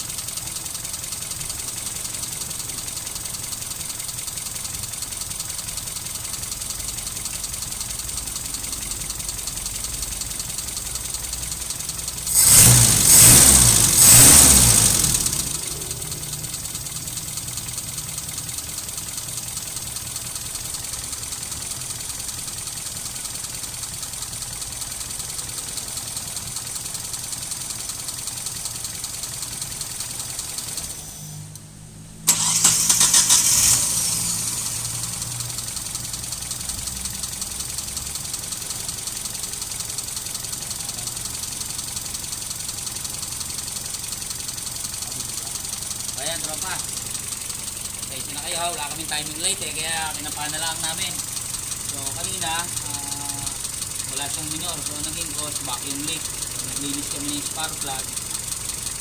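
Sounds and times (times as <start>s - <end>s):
car engine idling: 0.0s - 59.0s
engine cranking and restarting: 0.0s - 59.0s.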